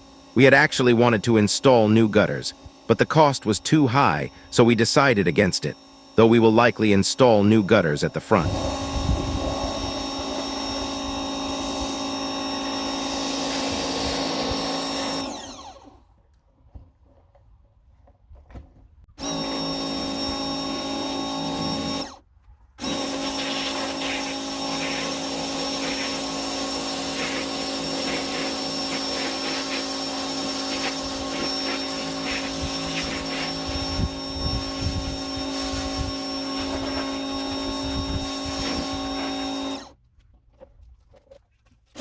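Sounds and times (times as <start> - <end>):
electric power tool running: 0.0 - 16.1, 19.2 - 22.2, 22.8 - 40.0.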